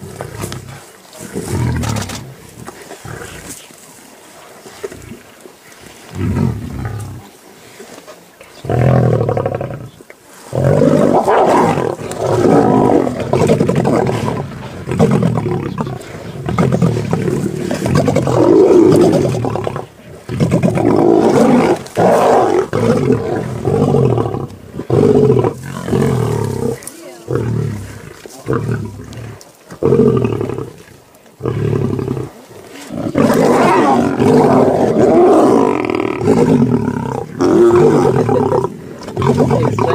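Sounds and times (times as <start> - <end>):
lions growling: 0.0 - 7.4, 8.1 - 39.9.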